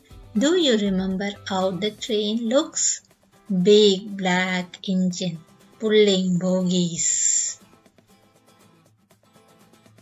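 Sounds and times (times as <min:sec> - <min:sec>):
faint instrumental music: 0:00.0 - 0:10.0.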